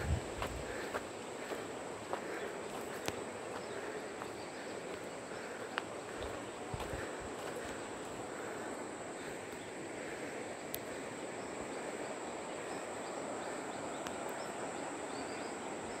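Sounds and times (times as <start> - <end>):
constant rushing noise: 0.0 - 16.0
faint chirps: 0.0 - 16.0
high insect drone: 0.0 - 16.0.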